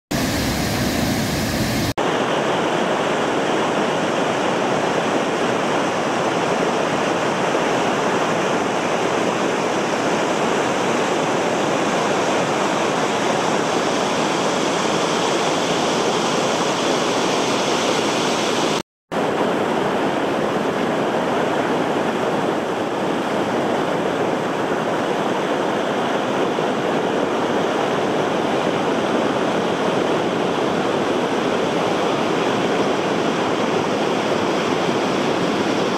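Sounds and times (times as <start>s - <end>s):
waterfall roaring: 0.1s - 35.9s.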